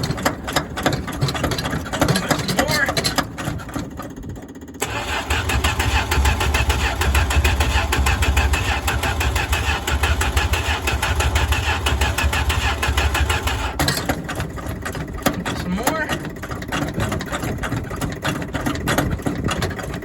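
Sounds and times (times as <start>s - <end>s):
truck engine cranking and running: 0.0s - 20.0s.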